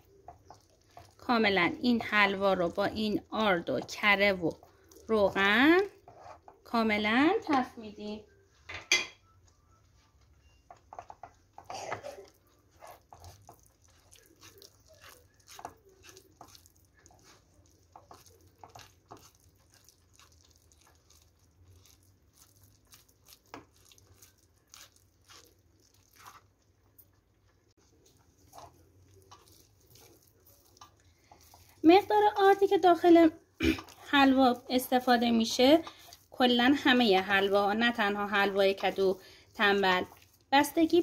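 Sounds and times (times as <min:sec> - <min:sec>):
spoon stirring sticky mixture: 0:00.0 - 0:41.0.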